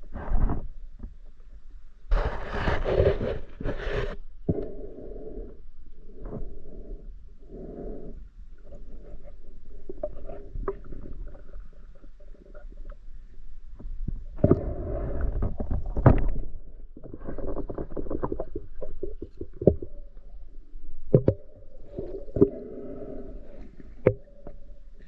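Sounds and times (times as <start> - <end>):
muffled water gurgling and sloshing: 2.8 - 25.0.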